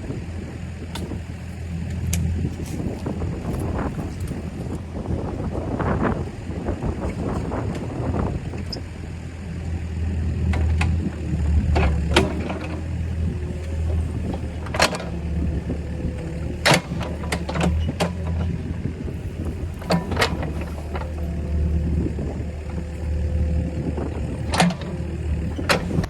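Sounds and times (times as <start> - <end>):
machine engine humming: 0.0 - 26.0.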